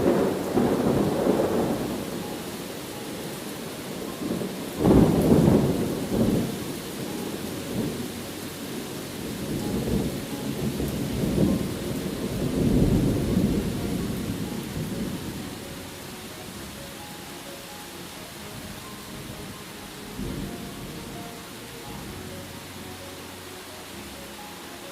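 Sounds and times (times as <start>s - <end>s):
thunder rumbling: 0.0s - 22.9s
steady rain: 0.0s - 24.9s.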